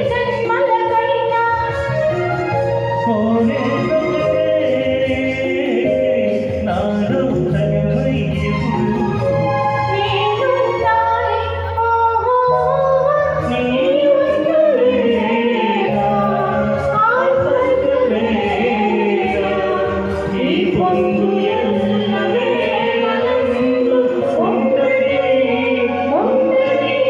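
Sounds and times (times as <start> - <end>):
instrumental backing track: 0.0 - 27.0
person singing into microphones: 0.0 - 27.0.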